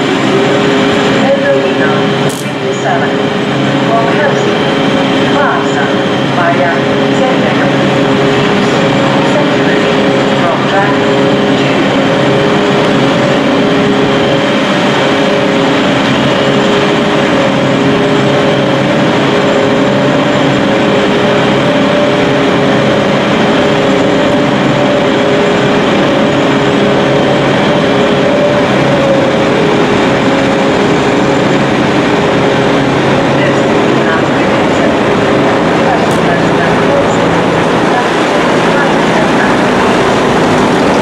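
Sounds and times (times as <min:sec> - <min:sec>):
locomotive diesel engine humming: 0:00.0 - 0:41.0.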